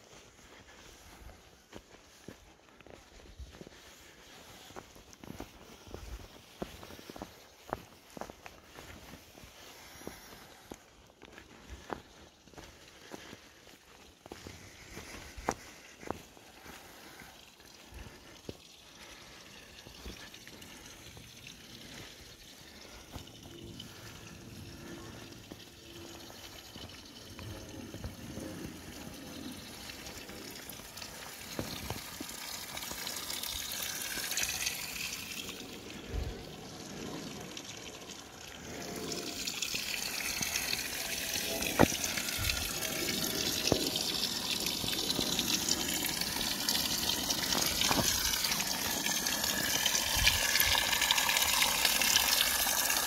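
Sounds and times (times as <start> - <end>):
water running and splashing: 3.0 - 53.0.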